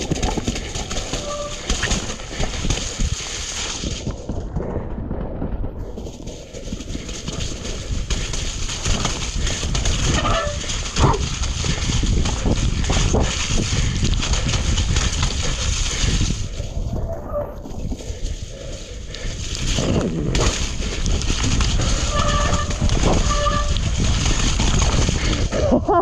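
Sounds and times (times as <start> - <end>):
bike rattling and knocking: 0.0 - 26.0
wind buffeting microphone: 0.0 - 26.0.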